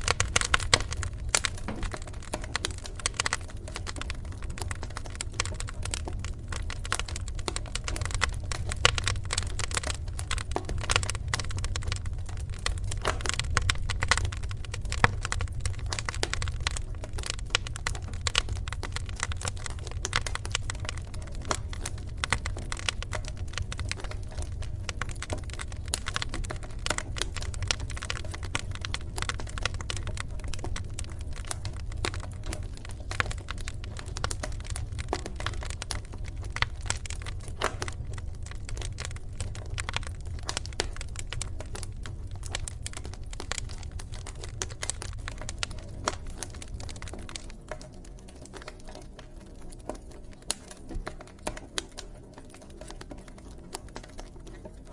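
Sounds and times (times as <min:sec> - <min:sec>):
low fire rumble: 0:00.0 - 0:54.9
wood fire crackling and popping: 0:00.0 - 0:54.9.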